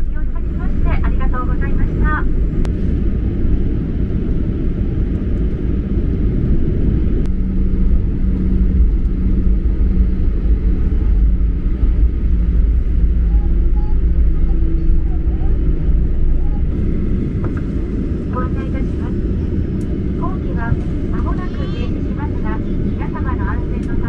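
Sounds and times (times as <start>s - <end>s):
jet cabin rumble: 0.0s - 24.0s
steady low hum: 0.0s - 24.0s.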